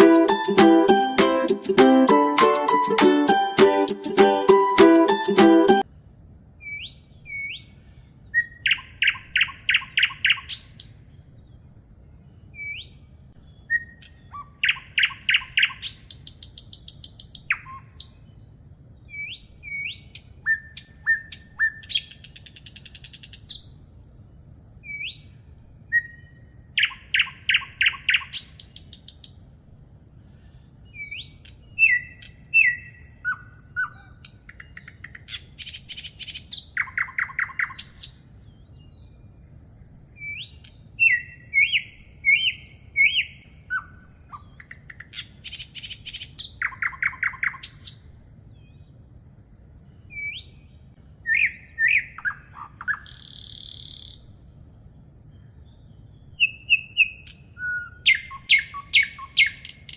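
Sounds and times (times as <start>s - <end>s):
faint low hum: 5.8s - 59.9s
songbirds singing: 6.6s - 29.5s, 30.1s - 59.9s.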